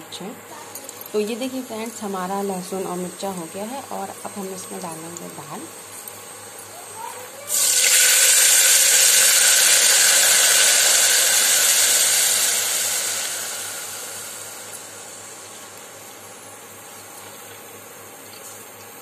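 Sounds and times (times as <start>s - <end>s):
loud sizzling in hot oil: 1.1s - 19.0s.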